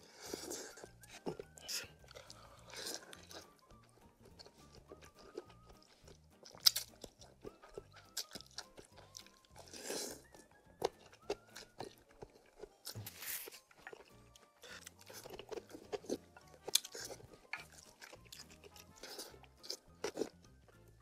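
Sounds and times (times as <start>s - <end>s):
slurping: 0.0s - 20.4s
chewing and crunching noodles: 0.0s - 21.0s
quiet background music: 0.0s - 21.0s.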